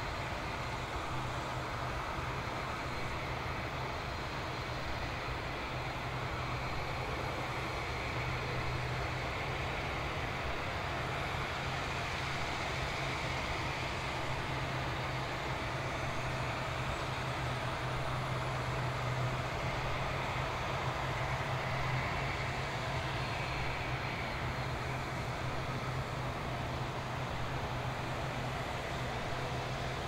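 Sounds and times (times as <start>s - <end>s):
aircraft low hum: 0.0s - 30.0s.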